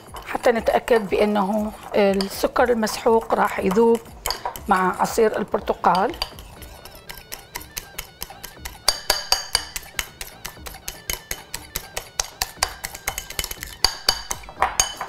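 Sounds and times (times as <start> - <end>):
whisk clinking against bowl: 0.0 - 15.0.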